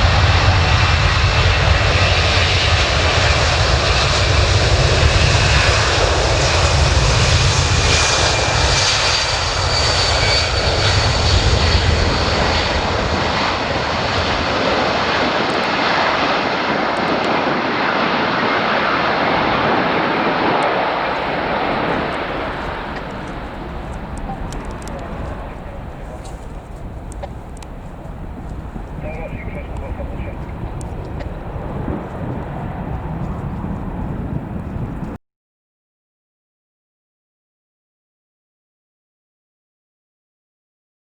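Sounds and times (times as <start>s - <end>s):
deep rumble: 0.0s - 35.2s
jet engines roaring: 0.0s - 35.2s.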